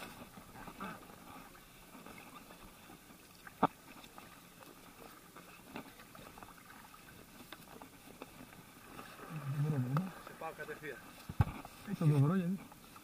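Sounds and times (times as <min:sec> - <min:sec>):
water lapping around kayak: 0:00.0 - 0:13.0.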